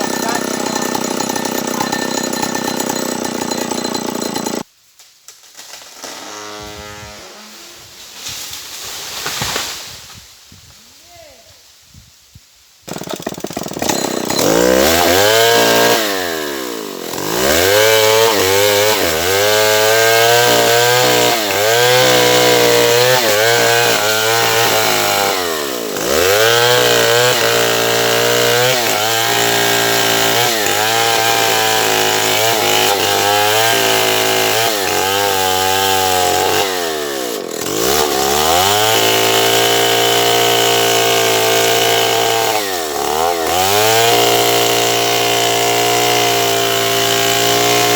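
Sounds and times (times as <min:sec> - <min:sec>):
chainsaw cutting wood: 0:00.0 - 0:04.7, 0:05.5 - 0:07.6, 0:12.8 - 0:47.9.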